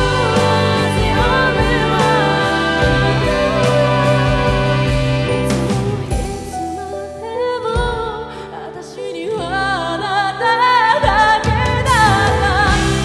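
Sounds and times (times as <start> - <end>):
instrumental backing: 0.0 - 8.8, 10.1 - 13.0
woman singing pop ballad: 0.0 - 13.0.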